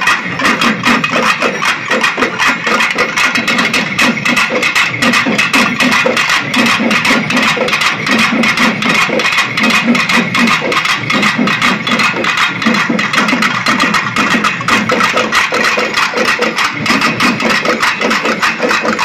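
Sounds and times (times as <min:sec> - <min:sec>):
drum ensemble beaten with sticks: 0:00.0 - 0:19.0.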